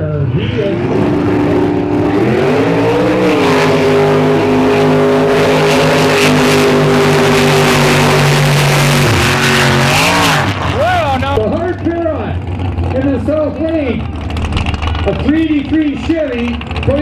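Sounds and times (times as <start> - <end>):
race truck engine revving: 0.0 - 17.0.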